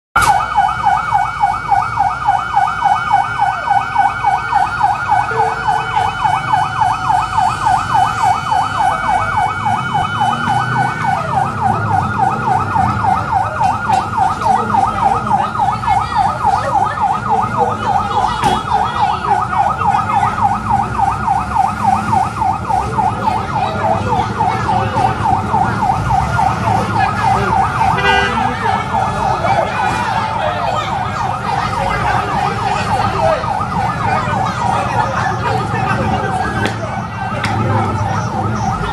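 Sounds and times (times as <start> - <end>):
low rumble of traffic: 0.2 - 38.9
siren yelping: 0.2 - 38.9.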